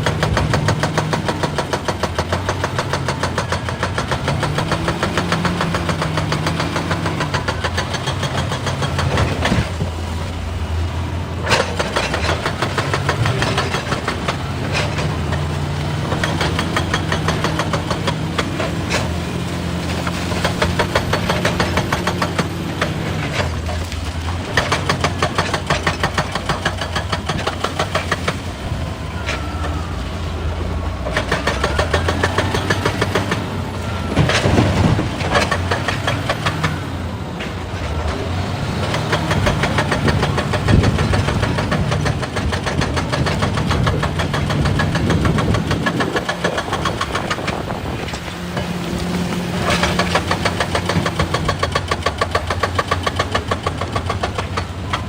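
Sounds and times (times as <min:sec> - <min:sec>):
excavator diesel engine knocking: 0:00.0 - 0:55.0.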